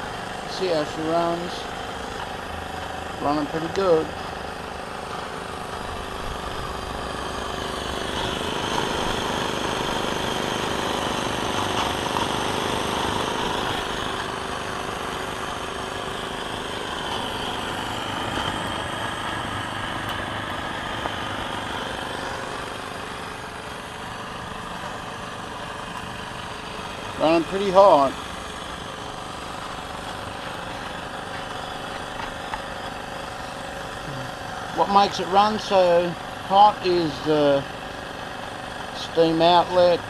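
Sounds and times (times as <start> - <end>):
exhaust steam hissing: 0.0 - 40.0
model steam engine running fast: 0.0 - 40.0
propeller churning water: 0.0 - 40.0.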